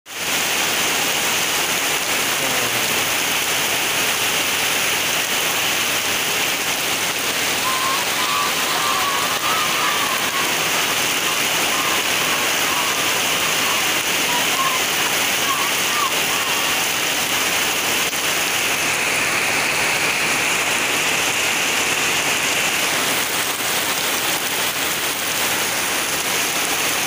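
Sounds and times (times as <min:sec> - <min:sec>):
heavy rain on metal roofs: 0:00.1 - 0:27.0.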